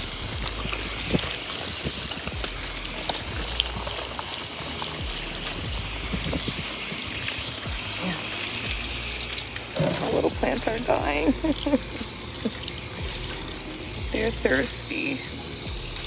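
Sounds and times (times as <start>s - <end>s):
hose spraying water: 0.0s - 16.0s
water splashing: 0.0s - 16.0s.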